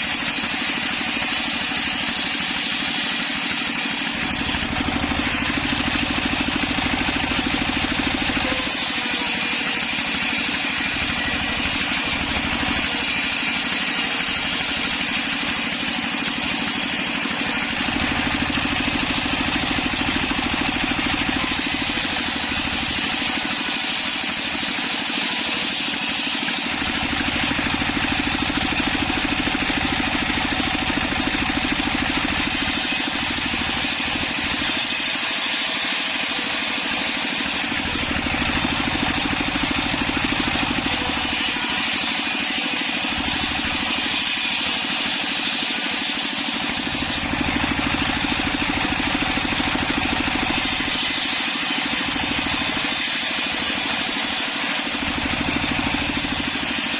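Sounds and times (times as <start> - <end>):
circular saw cutting wood: 0.0 - 56.9.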